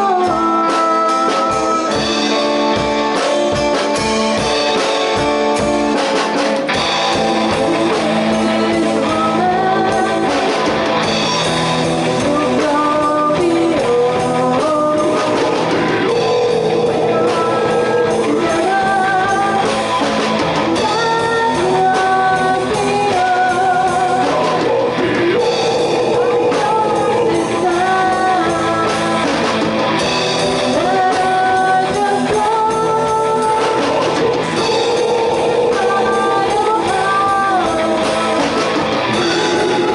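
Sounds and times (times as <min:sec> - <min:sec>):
person singing: 0:00.0 - 0:04.0, 0:07.1 - 0:11.2, 0:12.0 - 0:29.9, 0:30.5 - 0:39.9
rock band playing: 0:00.0 - 0:39.9.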